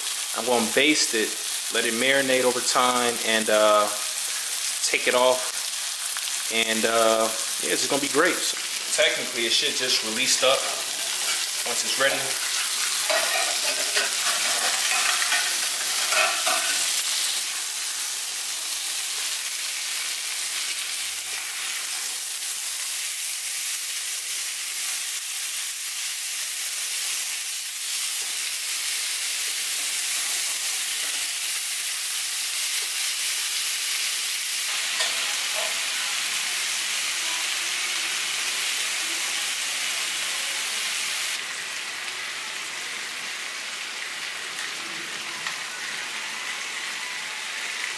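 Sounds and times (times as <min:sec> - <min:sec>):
steaks sizzling in a skillet: 0:00.0 - 0:47.9.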